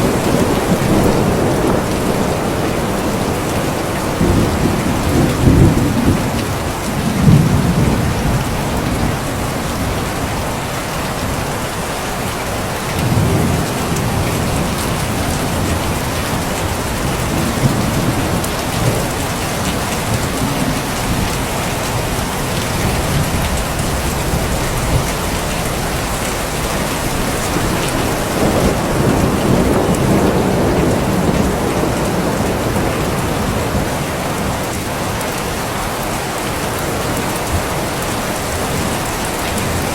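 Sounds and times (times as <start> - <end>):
rolling thunder: 0.0 - 10.8, 12.9 - 39.9
heavy rain hissing: 0.0 - 39.9.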